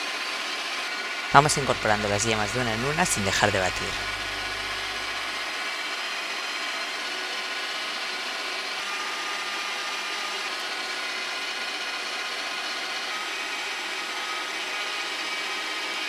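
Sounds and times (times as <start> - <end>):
electric stand mixer running: 0.0 - 16.0.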